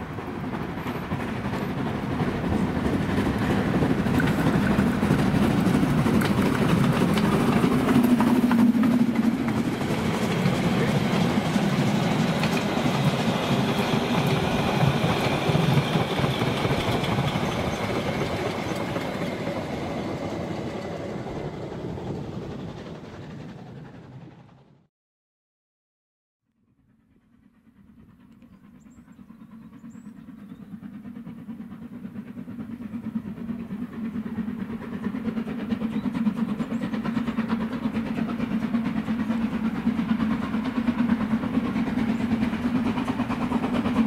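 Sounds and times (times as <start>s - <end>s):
train rumbling past: 0.0s - 24.9s, 26.7s - 44.0s.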